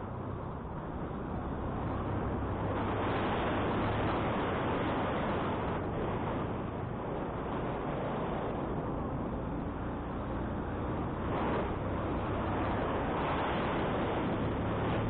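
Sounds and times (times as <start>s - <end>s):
motorcycle engine humming: 0.0s - 15.0s
wind rushing over microphone: 0.0s - 15.0s.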